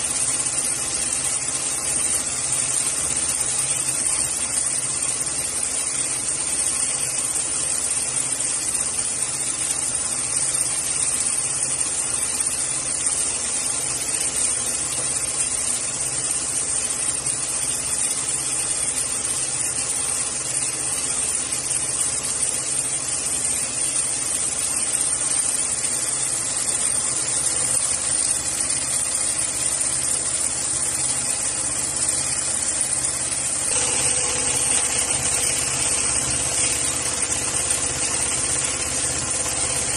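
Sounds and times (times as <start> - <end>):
sewing machine humming and hissing: 0.0 - 39.9.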